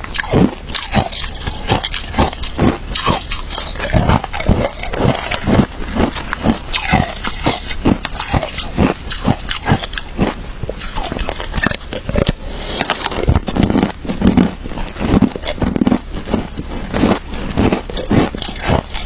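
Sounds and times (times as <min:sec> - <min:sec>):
chewing crunchy shaved ice: 0:00.0 - 0:19.0.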